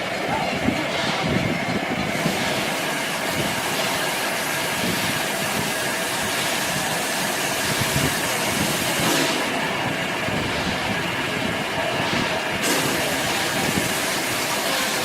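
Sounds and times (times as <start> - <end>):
low rumble of train: 0.0 - 15.0
steam hissing from locomotive: 0.0 - 15.0.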